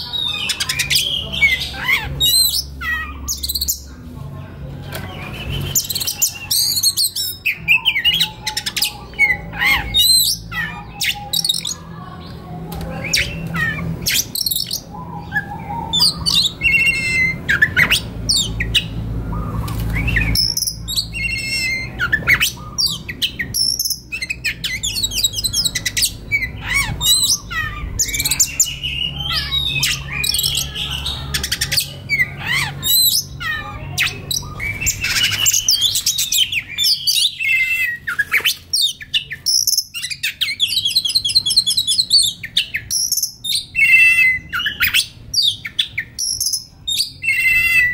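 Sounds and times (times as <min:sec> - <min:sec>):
bird singing whistles and trills: 0:05.1 - 0:11.8, 0:13.0 - 0:47.9.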